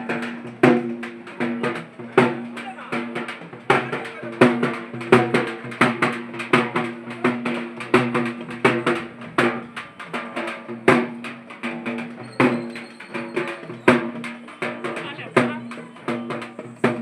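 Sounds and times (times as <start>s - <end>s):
loud fast drum strikes: 0.0s - 17.0s.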